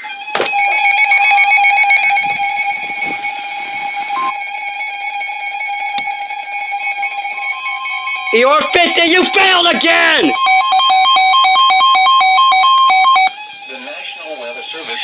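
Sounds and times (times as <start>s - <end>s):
steady electronic alarm beeping: 0.1s - 14.8s
higher second alarm tone: 0.6s - 13.4s.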